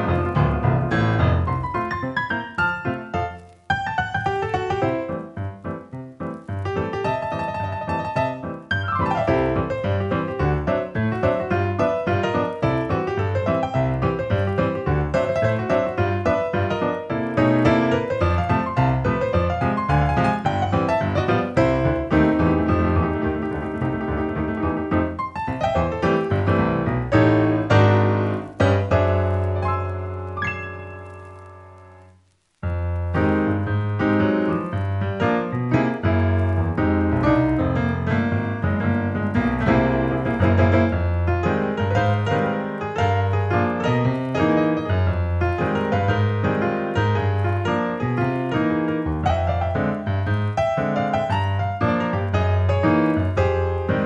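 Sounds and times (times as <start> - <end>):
instrumental piano film music: 0.0 - 54.0.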